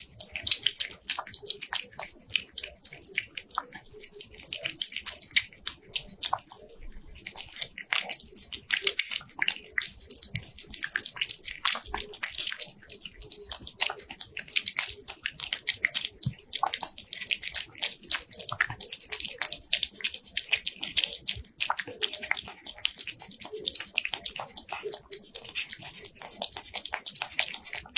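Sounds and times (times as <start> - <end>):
cat wet mouth smacking: 0.1 - 27.9.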